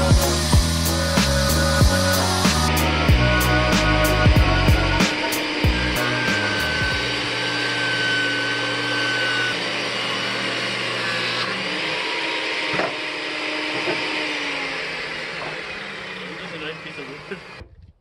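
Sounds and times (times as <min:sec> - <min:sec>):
electric motor whining: 0:00.0 - 0:17.7.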